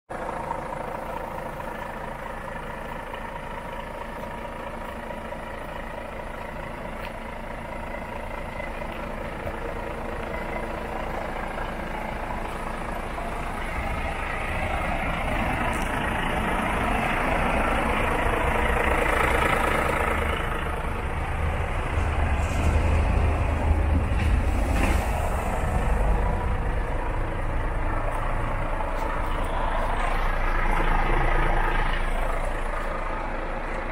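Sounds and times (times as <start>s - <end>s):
diesel truck engine idling: 0.1s - 33.9s.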